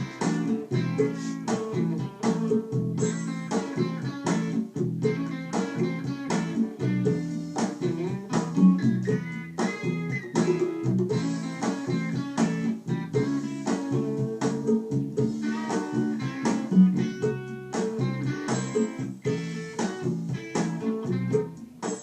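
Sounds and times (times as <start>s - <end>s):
bluesy guitar playing: 0.0s - 22.0s.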